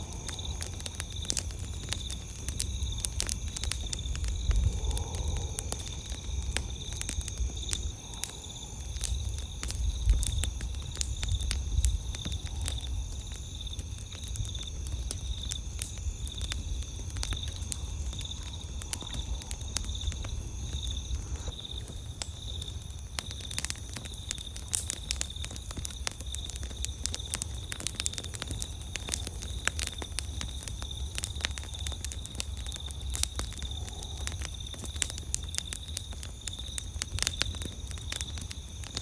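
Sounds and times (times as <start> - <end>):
campfire crackling and popping: 0.0 - 39.0
insects chirping trill: 0.0 - 39.0.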